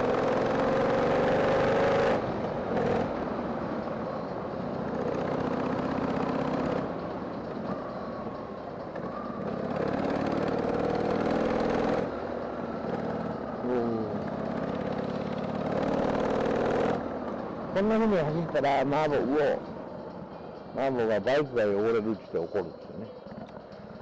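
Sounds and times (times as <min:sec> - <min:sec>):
motorcycle engine running: 0:00.0 - 0:20.7
tyres on wet road: 0:00.0 - 0:24.0.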